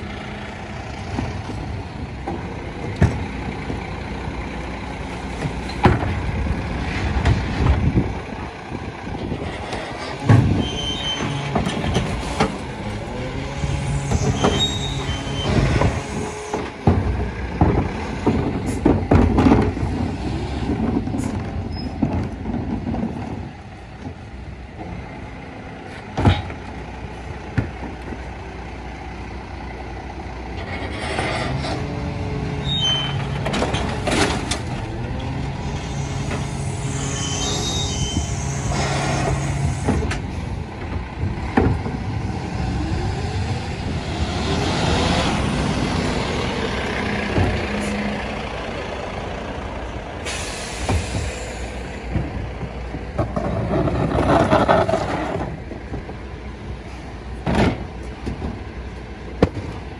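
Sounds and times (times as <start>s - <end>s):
garbage truck engine and hydraulics: 0.0s - 59.9s.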